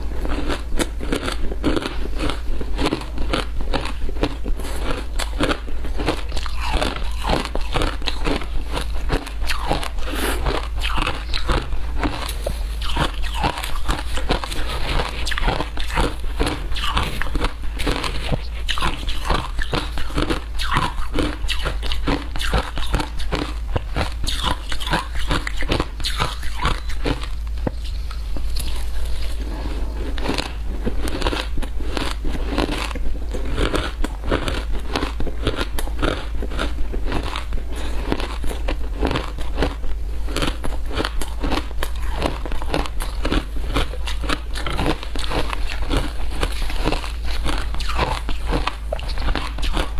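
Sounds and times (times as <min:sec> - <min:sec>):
crunching frozen ice: 0:00.2 - 0:49.9.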